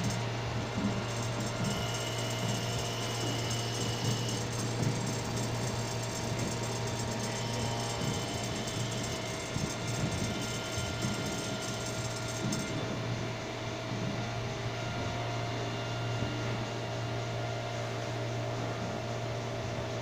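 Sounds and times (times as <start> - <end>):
thin high whine: 0.0 - 20.0
turning machine hum: 0.0 - 20.0.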